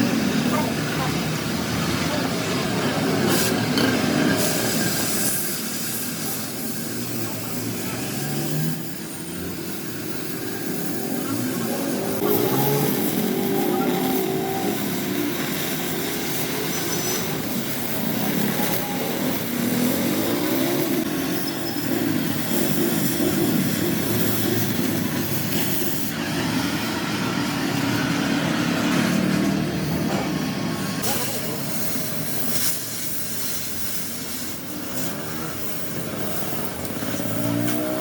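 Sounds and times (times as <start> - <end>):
rumble of running vehicles: 0.0 - 38.0.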